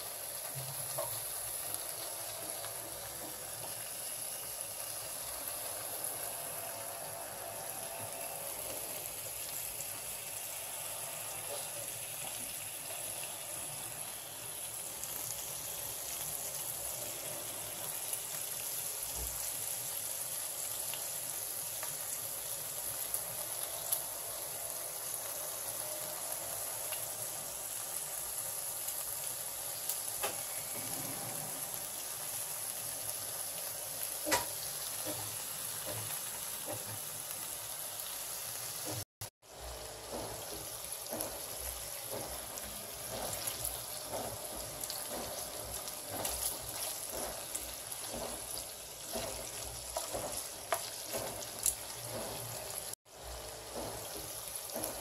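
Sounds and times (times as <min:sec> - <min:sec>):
pork sizzling in a frying pan: 0:00.0 - 0:55.0.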